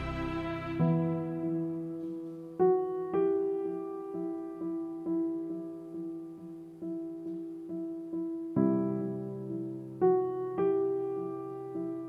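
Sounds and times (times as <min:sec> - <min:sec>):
slow soft piano music: 0:00.0 - 0:12.0.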